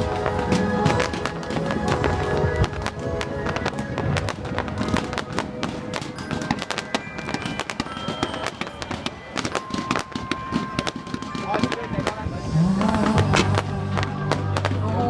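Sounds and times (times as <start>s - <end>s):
fireworks popping and crackling: 0.0s - 15.0s
pop music over loudspeakers: 0.0s - 15.0s.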